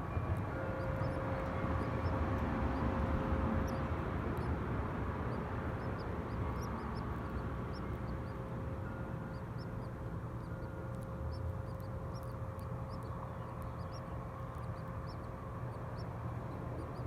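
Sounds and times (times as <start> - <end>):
faint high bird chirps: 0.7 - 4.6, 5.3 - 8.5, 9.2 - 17.0.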